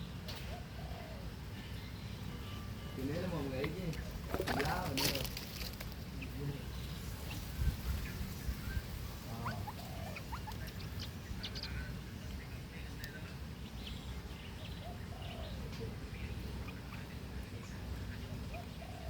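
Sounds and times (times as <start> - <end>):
birds squeaking and chirping: 0.0 - 19.0.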